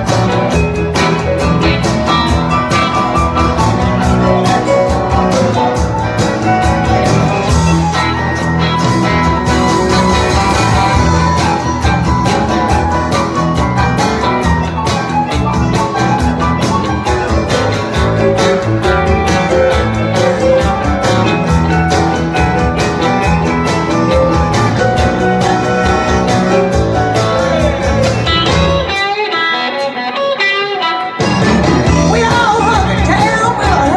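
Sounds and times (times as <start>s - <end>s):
drums: 0.0s - 33.9s
electric guitars: 0.0s - 33.9s
keyboard: 0.0s - 33.9s.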